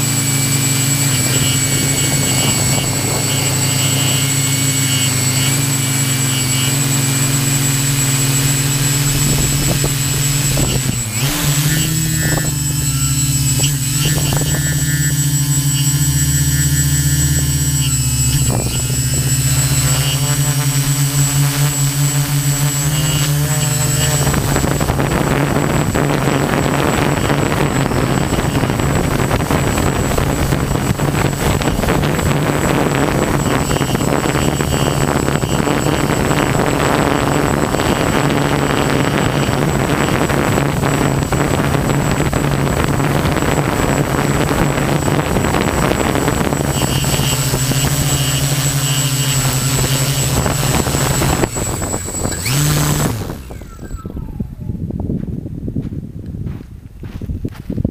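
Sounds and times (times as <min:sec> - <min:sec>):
quadcopter motors droning: 0:00.0 - 0:55.2
high constant whine: 0:00.0 - 0:57.7.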